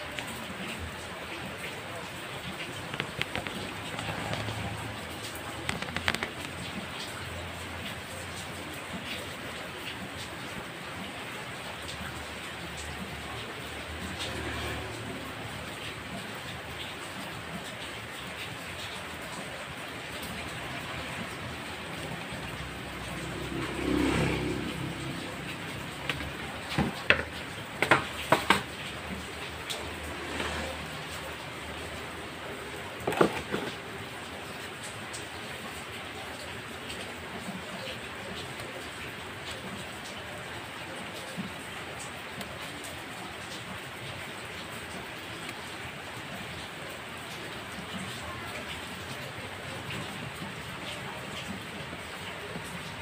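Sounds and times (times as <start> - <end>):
rain on wet concrete: 0.0 - 53.0.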